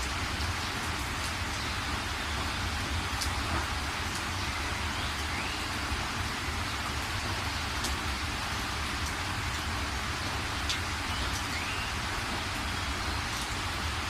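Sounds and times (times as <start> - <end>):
rain drop ticks: 0.0 - 14.0
steady rain hiss: 0.0 - 14.0.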